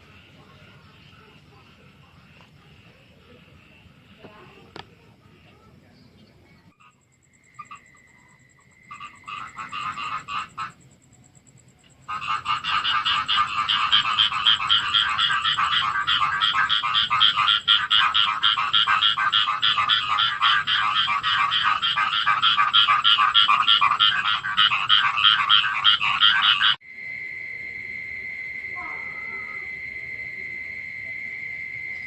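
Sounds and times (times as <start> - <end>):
frogs croaking: 0.0 - 32.0.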